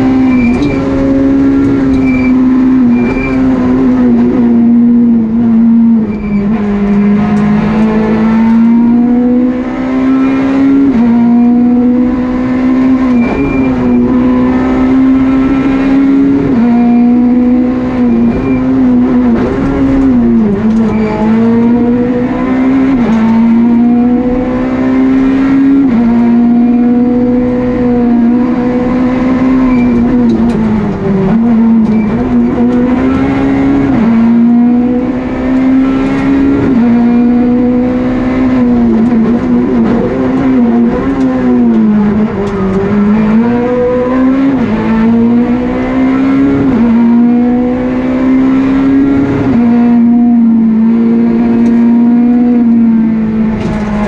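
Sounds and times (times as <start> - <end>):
rally car engine revving high: 0.0 - 54.0.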